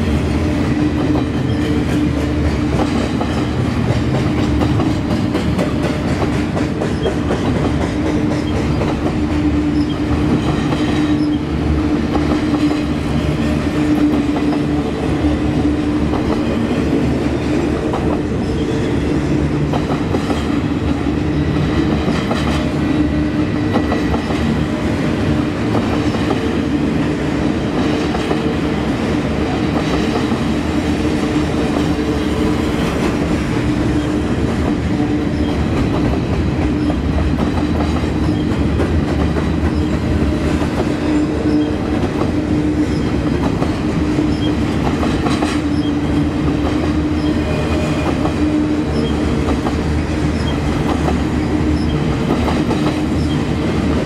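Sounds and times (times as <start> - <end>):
freight train rumble: 0.0 - 54.0.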